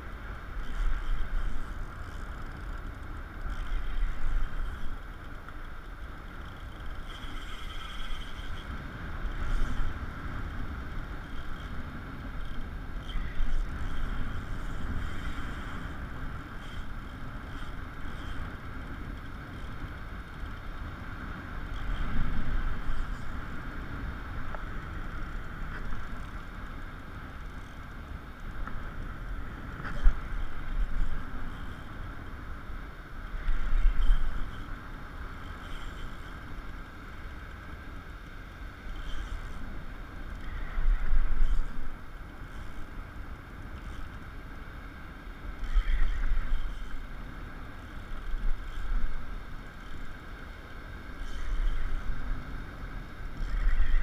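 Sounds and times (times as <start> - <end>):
wind buffeting the microphone: 0.0 - 54.0.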